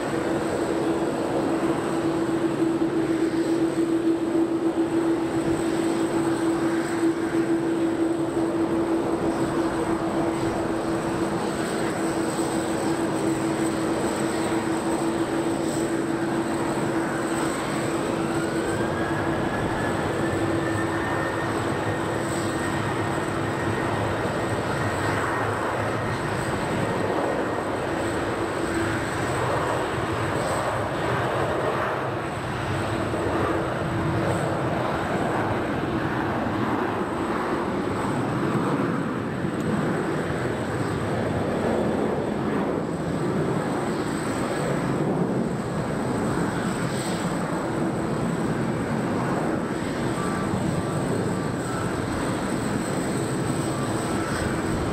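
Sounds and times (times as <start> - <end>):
jet engine rushing and whining: 0.0 - 54.9.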